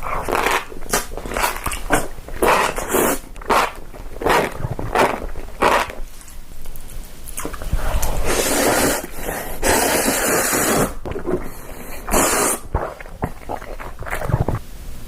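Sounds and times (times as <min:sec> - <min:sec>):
crunching and chewing: 0:00.0 - 0:09.3, 0:10.9 - 0:14.6.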